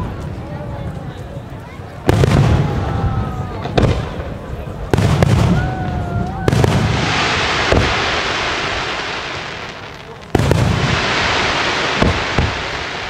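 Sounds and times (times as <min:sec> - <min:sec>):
fireworks booming: 0:02.0 - 0:13.0
fireworks hissing: 0:02.1 - 0:13.0.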